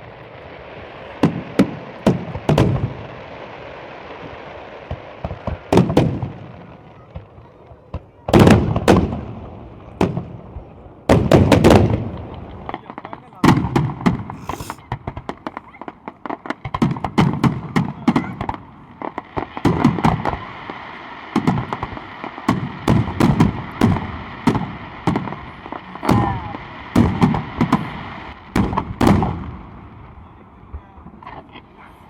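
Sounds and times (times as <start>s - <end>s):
fireworks cracks and booms: 0.0s - 31.8s.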